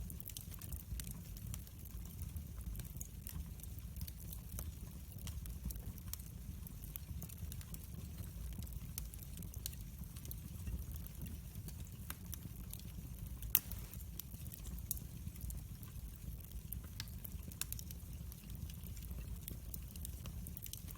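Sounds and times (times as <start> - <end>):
low rumble of flames: 0.0 - 20.9
wood fire crackling and popping: 0.0 - 20.9.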